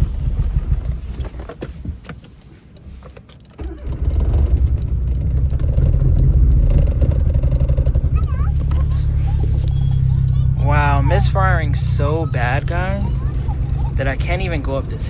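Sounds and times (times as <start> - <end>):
car engine misfiring: 0.0 - 15.0.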